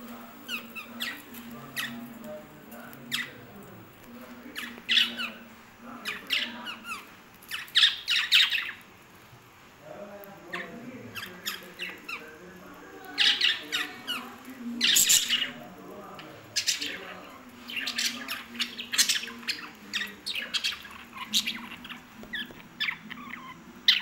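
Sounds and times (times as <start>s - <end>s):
parrots squawking and chirping: 0.3s - 8.9s, 10.5s - 12.4s, 13.0s - 24.0s.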